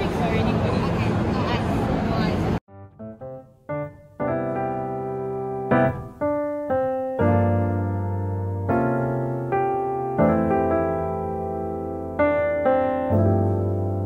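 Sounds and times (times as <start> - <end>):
soft piano chords: 2.7 - 14.0.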